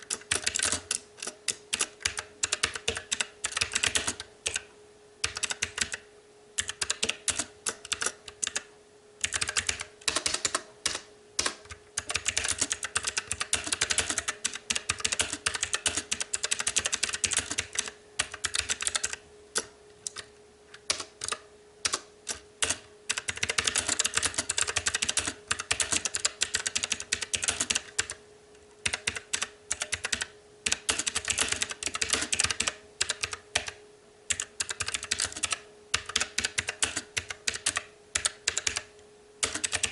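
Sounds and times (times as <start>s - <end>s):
mechanical keyboard typing: 0.0s - 28.2s, 28.8s - 39.9s
faint steady hum: 0.0s - 39.9s.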